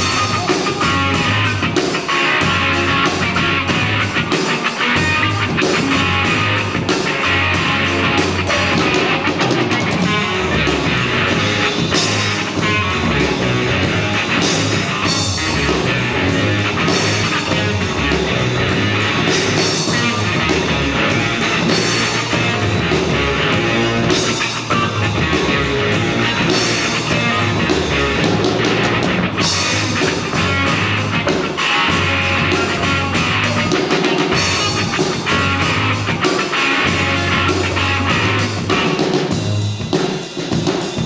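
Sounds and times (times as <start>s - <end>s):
pulsing bass line: 0.0s - 9.2s, 10.0s - 33.7s, 34.3s - 39.8s
live rock band playing: 0.0s - 41.0s.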